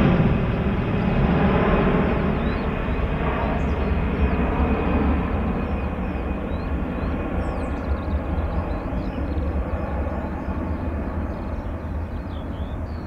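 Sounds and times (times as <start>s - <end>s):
deep jet engine rumble: 0.0s - 13.0s.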